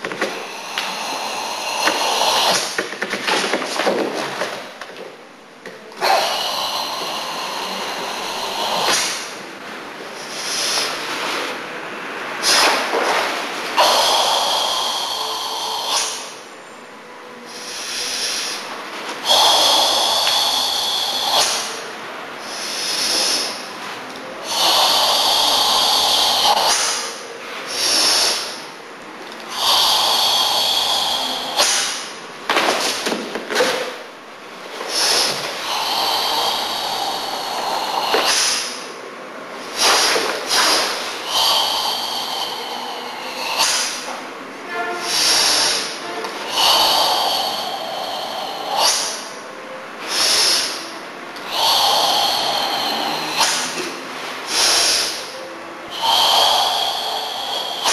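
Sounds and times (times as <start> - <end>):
loud hissing breaths: 0.0 - 4.8, 6.0 - 57.9
quiet breathing: 0.0 - 57.9.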